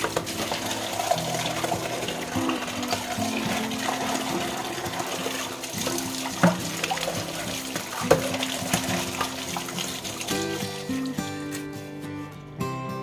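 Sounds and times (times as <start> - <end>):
water sloshing in basin: 0.0 - 11.7
background music: 0.0 - 13.0.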